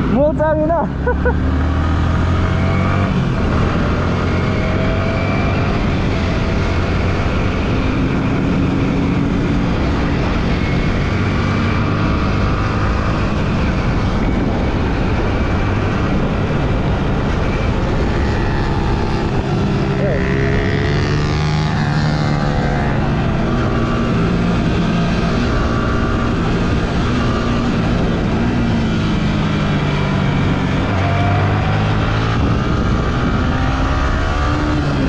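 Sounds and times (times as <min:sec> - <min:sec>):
wind noise on microphone: 0:01.4 - 0:35.0.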